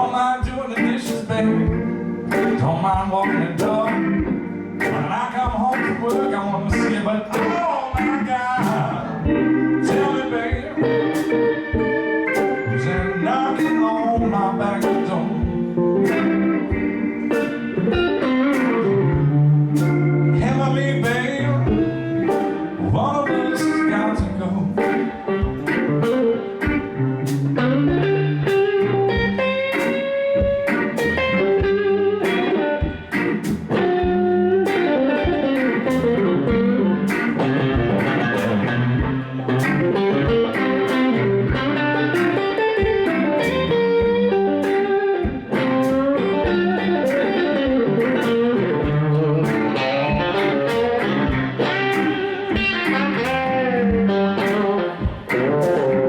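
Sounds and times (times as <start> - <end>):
blues band playing: 0.0 - 56.0
electric guitar lead lines: 0.0 - 56.0.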